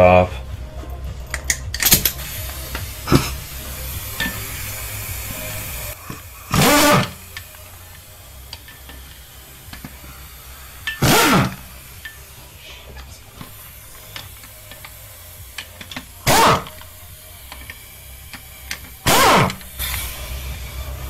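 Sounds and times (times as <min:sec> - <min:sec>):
impact wrench spinning bolts: 0:01.2 - 0:21.0.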